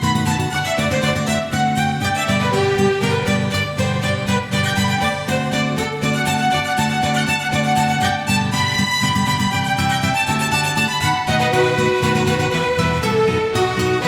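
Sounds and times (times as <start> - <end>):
violin music: 0.0 - 14.0.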